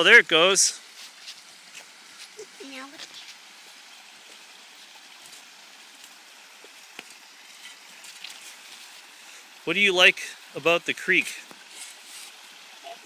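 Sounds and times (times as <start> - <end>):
water trickling over rocks: 0.0 - 13.0.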